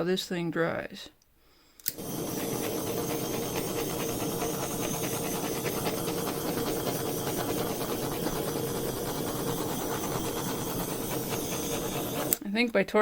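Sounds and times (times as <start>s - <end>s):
torch flame hissing: 1.9s - 12.4s.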